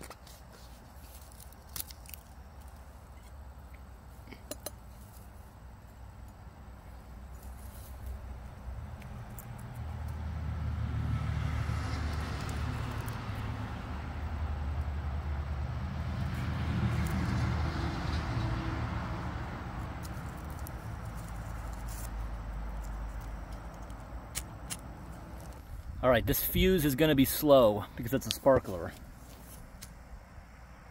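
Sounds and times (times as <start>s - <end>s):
outdoor rumble: 1.2s - 27.0s.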